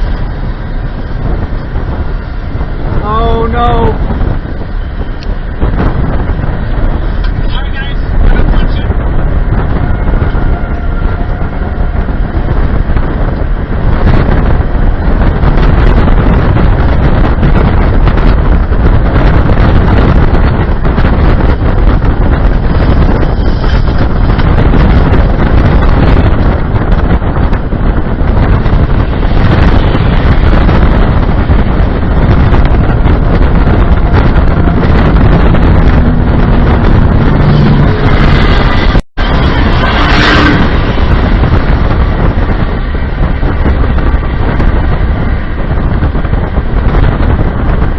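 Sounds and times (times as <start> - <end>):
strong wind blasting microphone: 0.0 - 47.9.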